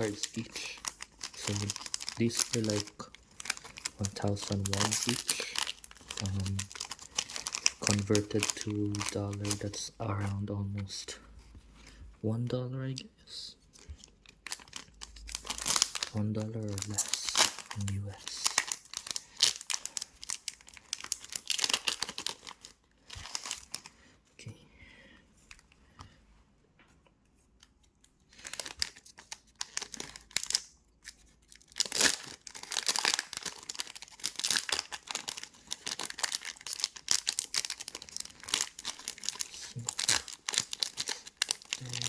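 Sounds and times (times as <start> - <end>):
card wrappers tearing and crinkling: 0.0 - 10.9, 13.7 - 23.9, 28.3 - 42.0.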